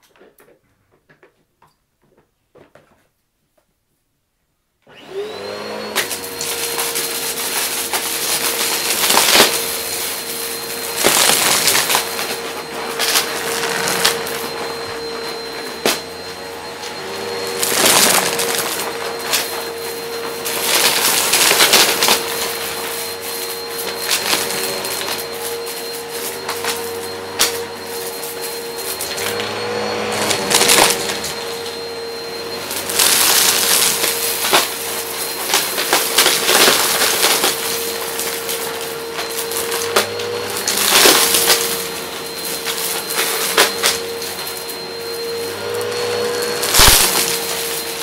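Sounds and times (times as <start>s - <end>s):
vacuum cleaner motor whine: 4.8s - 48.0s
cardboard crunching in vacuum: 5.2s - 48.0s.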